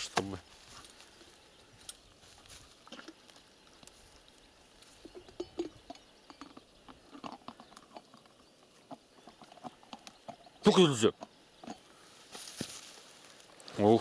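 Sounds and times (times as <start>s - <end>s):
rope and tack creaking: 0.0s - 14.0s.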